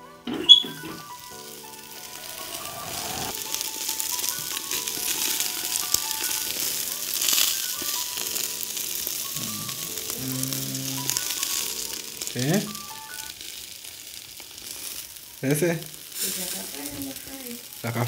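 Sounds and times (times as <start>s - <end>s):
chicken sizzling on a grill: 0.0s - 18.0s
music: 0.0s - 18.0s.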